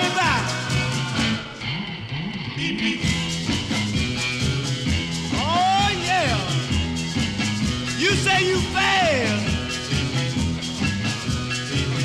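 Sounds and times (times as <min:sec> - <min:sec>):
rock and roll music: 0:00.0 - 0:12.0.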